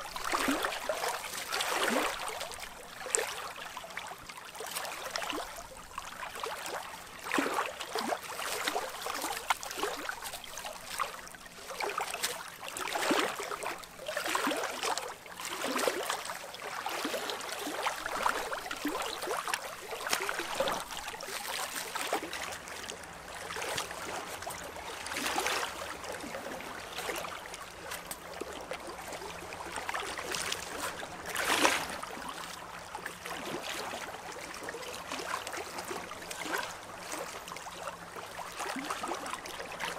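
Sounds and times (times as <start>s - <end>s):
waves lapping against rocks: 0.0s - 39.9s.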